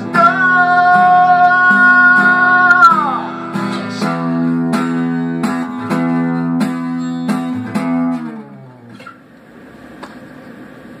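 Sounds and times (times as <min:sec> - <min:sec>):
guitar strumming chords: 0:00.0 - 0:09.2.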